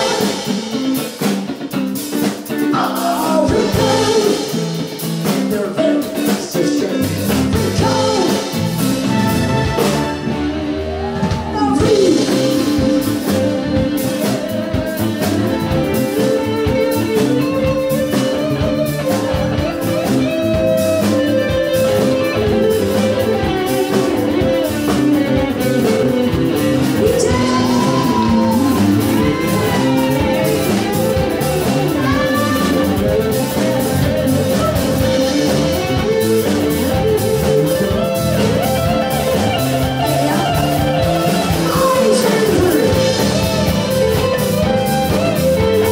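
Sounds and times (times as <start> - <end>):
electric guitar bending notes: 0.0 - 5.3, 7.0 - 45.9
drums: 0.0 - 45.9
live band playing: 0.0 - 45.9.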